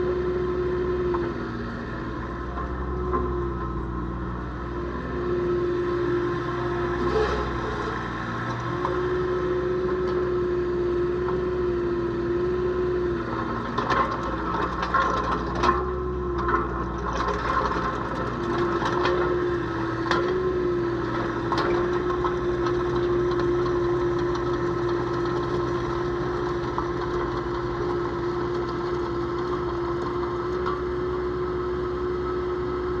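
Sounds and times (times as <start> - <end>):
mini excavator engine whine: 0.0 - 33.0.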